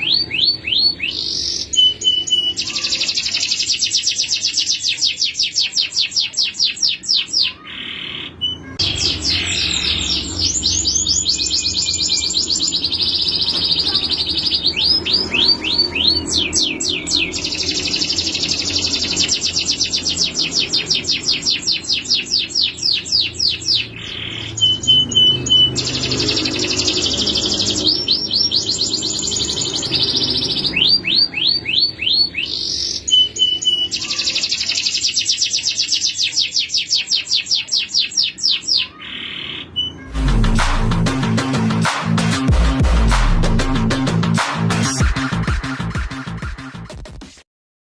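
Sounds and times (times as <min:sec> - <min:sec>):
canary singing trills: 0:00.0 - 0:40.4.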